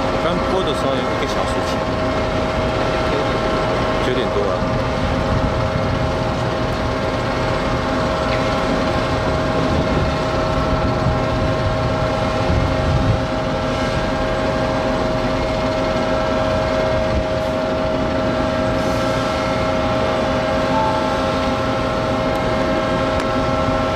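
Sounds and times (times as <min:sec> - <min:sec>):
machinery drone: 0:00.0 - 0:23.9.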